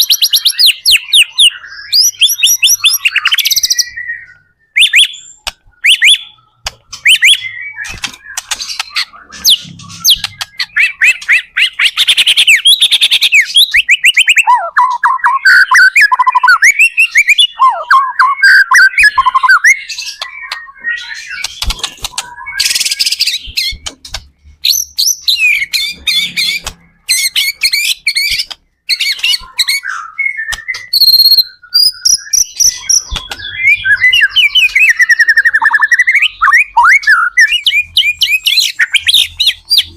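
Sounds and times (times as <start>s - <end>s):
bird singing loudly: 0.0s - 23.8s, 24.7s - 39.9s.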